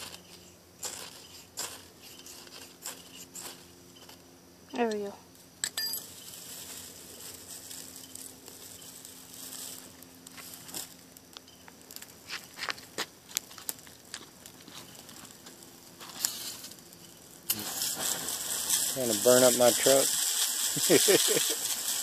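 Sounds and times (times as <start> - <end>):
dry grass crackling with pops: 0.0 - 22.0
faint hiss: 0.0 - 22.0.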